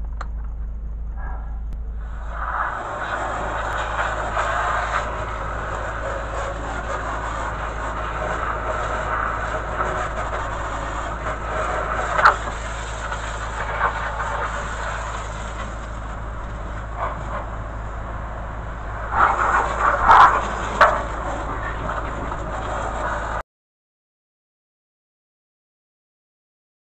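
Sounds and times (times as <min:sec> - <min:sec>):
low steady hum: 0:00.0 - 0:23.4.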